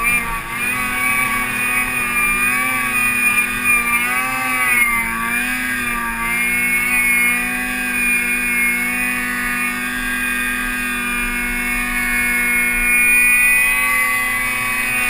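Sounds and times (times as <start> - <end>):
snowmobile engine running hard: 0.0 - 15.0.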